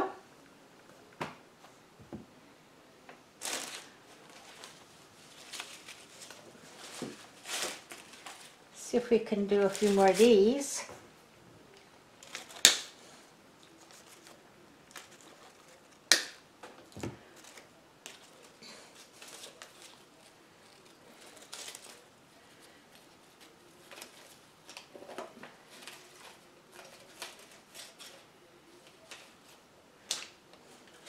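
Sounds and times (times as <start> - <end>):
plastic leaves rustling: 3.4 - 10.9, 12.2 - 31.0.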